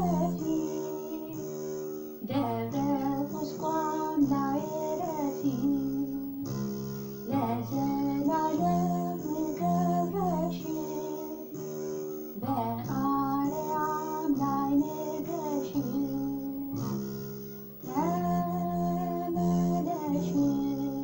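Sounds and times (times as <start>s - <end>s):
woman singing a hymn: 0.0s - 11.7s, 12.4s - 17.1s, 17.8s - 21.0s.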